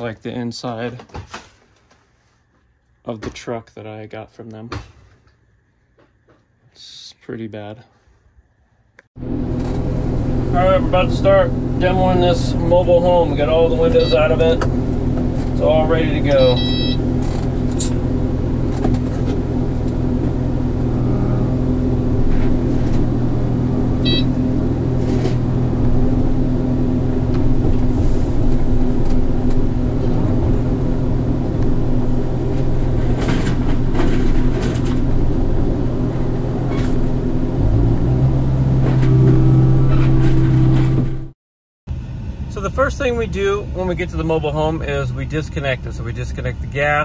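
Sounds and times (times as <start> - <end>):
diesel engine running: 9.2 - 47.0.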